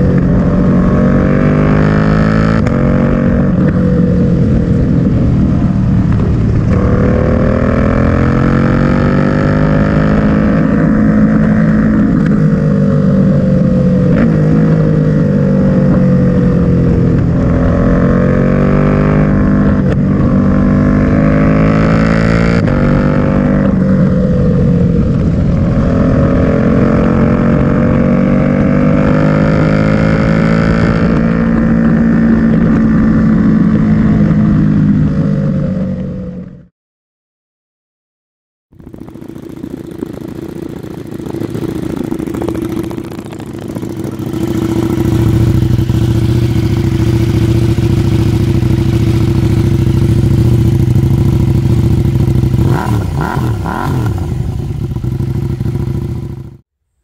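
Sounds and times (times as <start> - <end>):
motorcycle engine accelerating: 0.0 - 36.7, 38.7 - 56.6.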